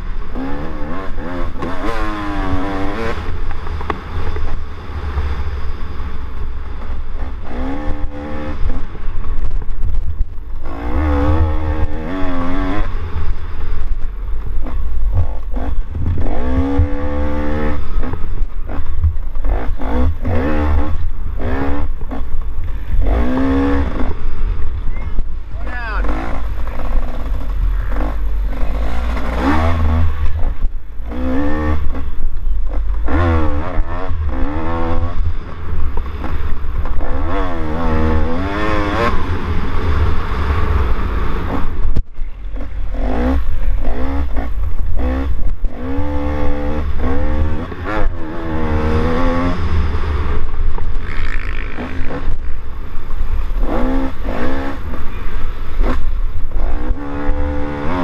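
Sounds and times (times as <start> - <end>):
dirt bike engine revving: 0.0 - 58.0
wind rumble on microphone: 0.0 - 58.0.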